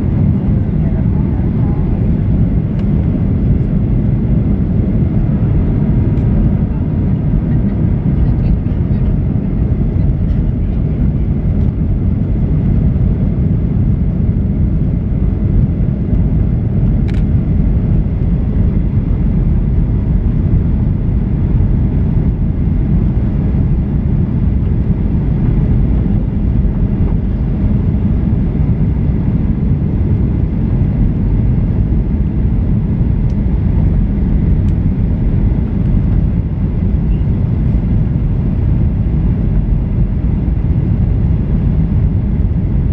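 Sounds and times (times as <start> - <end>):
airplane rumble in flight: 0.0 - 42.9.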